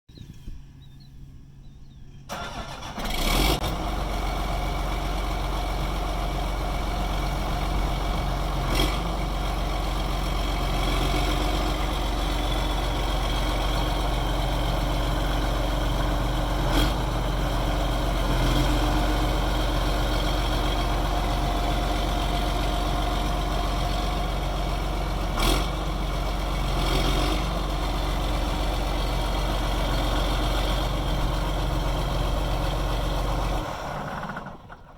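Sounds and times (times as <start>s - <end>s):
tractor diesel engine idling: 2.3s - 34.9s.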